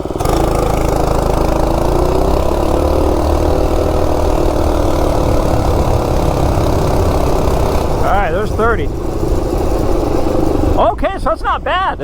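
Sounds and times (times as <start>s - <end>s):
minibike engine at full throttle: 0.0s - 12.0s.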